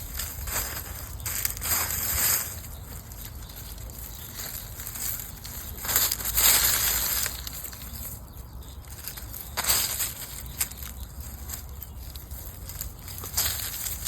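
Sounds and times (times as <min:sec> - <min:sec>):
dry litter rustling and crunching: 0:00.0 - 0:14.0.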